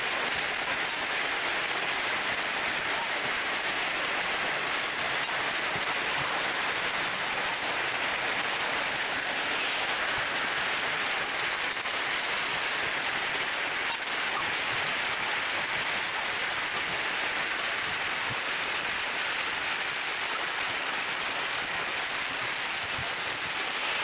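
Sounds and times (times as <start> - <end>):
glass marbles clattering: 0.0 - 24.0.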